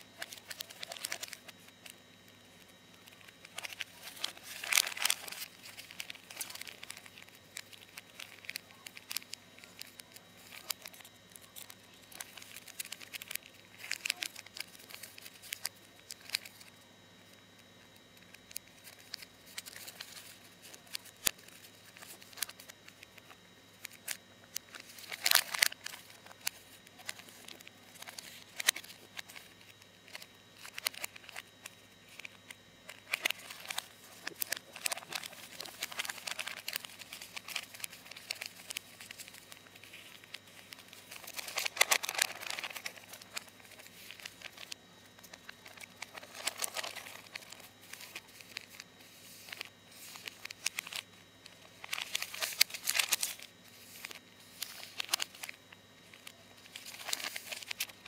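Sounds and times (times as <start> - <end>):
faint steady hum: 0.0 - 58.0
paper crinkling and rustling: 0.0 - 58.0.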